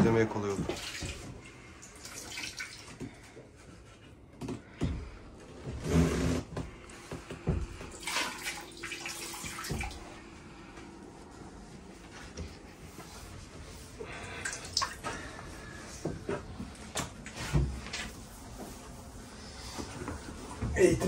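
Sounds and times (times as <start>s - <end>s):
water splashing and sloshing: 0.0s - 5.7s, 6.7s - 21.0s
faint steady hum: 0.0s - 21.0s.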